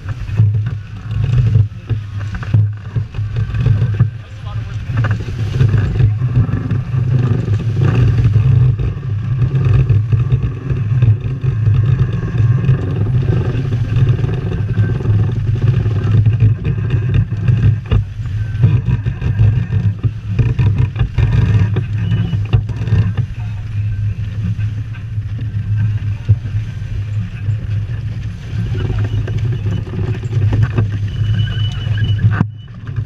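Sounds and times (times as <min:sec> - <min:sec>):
water rushing along hull: 0:00.0 - 0:33.0
wind buffeting microphone: 0:00.0 - 0:33.0.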